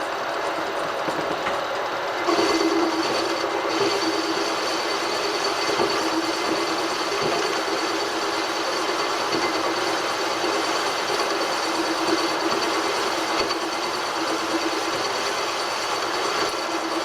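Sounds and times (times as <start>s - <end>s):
machine tool boring metal: 2.1s - 17.0s.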